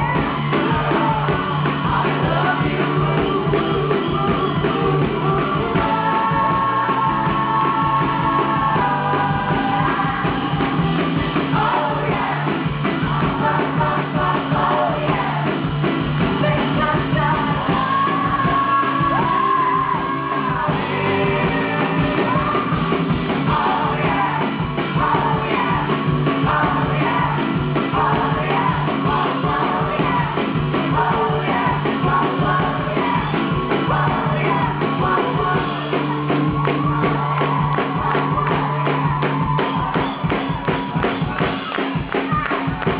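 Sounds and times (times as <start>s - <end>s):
woman singing with rock band: 0.0s - 39.2s
driving drum beat: 0.0s - 42.9s.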